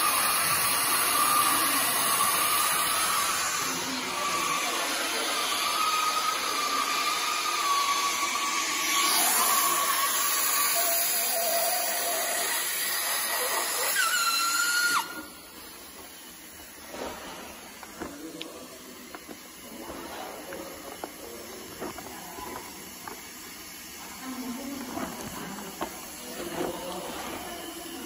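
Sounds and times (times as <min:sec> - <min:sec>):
hot-air welder blower hiss: 0:00.0 - 0:28.0.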